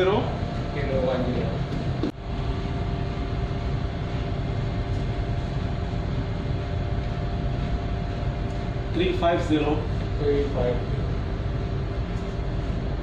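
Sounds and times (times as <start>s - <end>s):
ventilation hiss: 0.0s - 13.0s.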